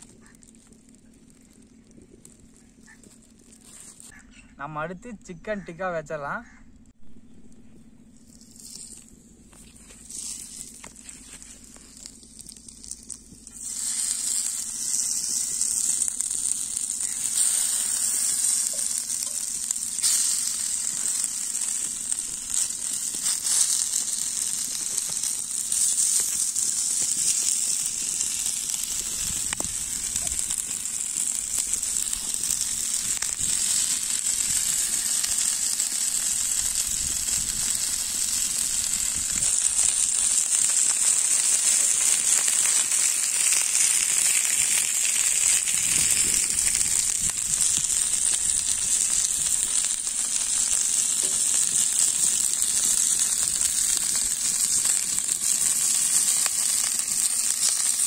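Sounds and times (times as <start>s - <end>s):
skewers sizzling on a griddle: 0.0s - 4.2s, 7.7s - 58.0s.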